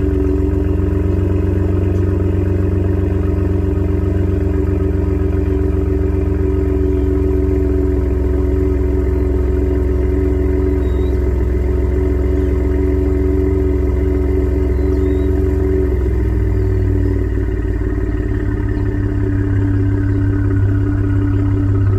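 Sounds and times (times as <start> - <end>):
truck exhaust at steady revs: 0.0 - 21.9.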